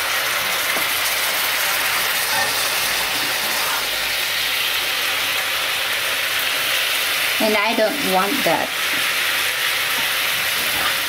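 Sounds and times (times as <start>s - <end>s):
sauce sizzling in a frying pan: 0.0s - 11.0s.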